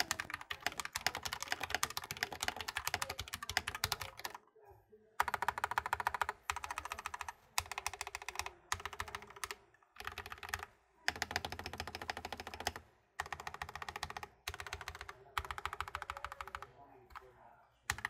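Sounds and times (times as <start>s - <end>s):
fast typing on mechanical keyboard: 0.0s - 4.4s, 5.2s - 17.3s.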